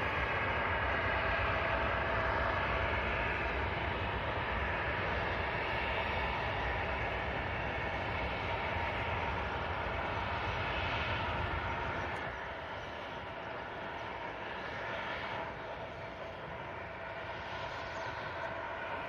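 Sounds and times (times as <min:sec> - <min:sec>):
jet engines at takeoff power: 0:00.0 - 0:19.0.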